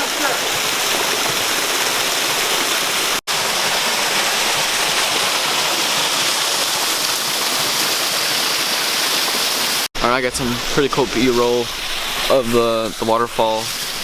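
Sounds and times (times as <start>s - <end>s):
waterfall pouring over rocks: 0.0s - 14.0s.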